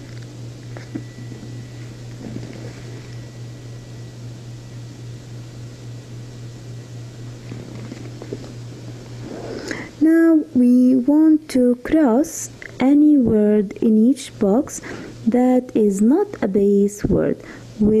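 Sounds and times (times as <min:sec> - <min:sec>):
faint high whine: 0:00.0 - 0:18.0
low background hum: 0:00.0 - 0:18.0.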